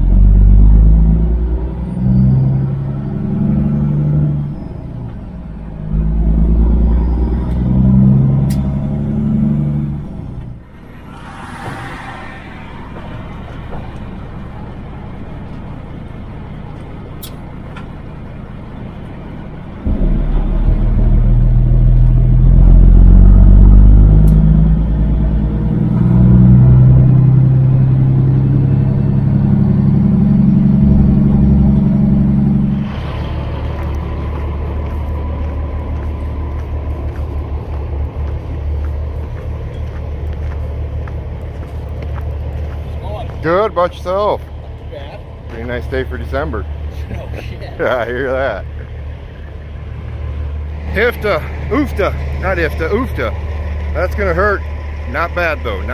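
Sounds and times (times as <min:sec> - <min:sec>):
truck diesel engine rumbling: 0:00.0 - 0:55.9.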